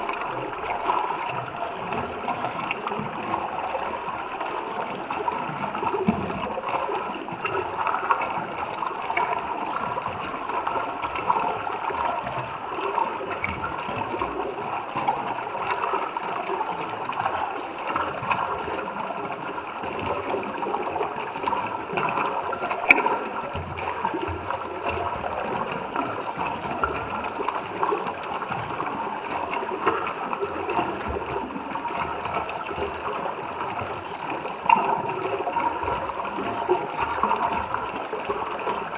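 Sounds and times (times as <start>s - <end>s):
stream water gurgling: 0.0s - 38.9s.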